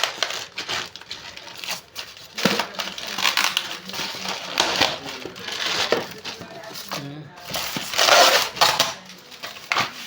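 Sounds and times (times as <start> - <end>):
packaging rustling and crackling: 0.0 - 10.0.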